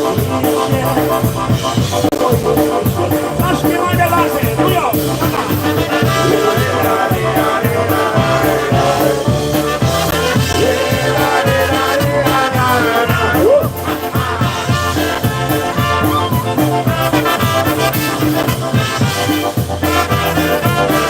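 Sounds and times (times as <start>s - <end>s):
horn lines: 0.0s - 21.0s
polka band playing: 0.0s - 21.0s
steady bass beat: 0.0s - 21.0s.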